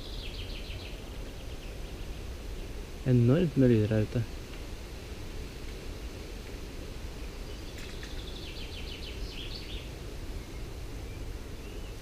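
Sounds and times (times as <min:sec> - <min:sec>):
low background noise: 0:00.0 - 0:12.0
songbird singing: 0:00.0 - 0:12.0.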